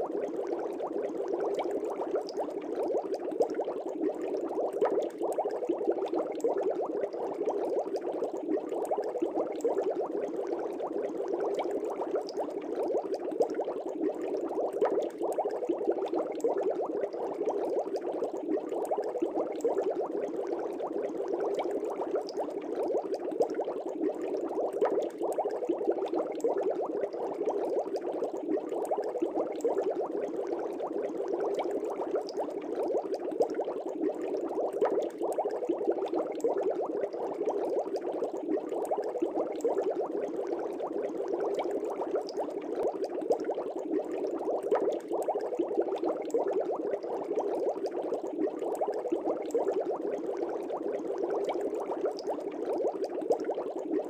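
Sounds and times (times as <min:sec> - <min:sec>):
aquarium air bubbling: 0:00.0 - 0:54.0.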